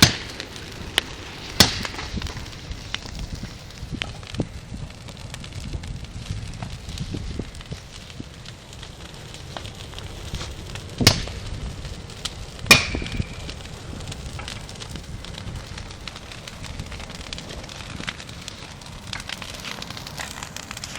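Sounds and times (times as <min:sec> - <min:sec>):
bonfire crackling: 0:00.0 - 0:20.9
loud sharp pops from fire: 0:00.0 - 0:20.9.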